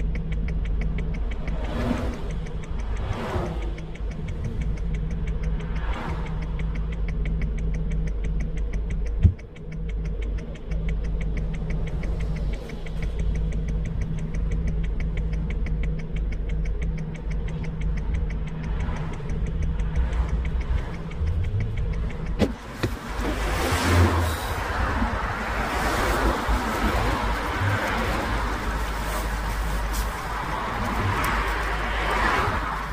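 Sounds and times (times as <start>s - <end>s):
rush of noise: 0.0s - 9.7s, 10.5s - 32.9s
engine idling with ticking: 0.0s - 32.9s.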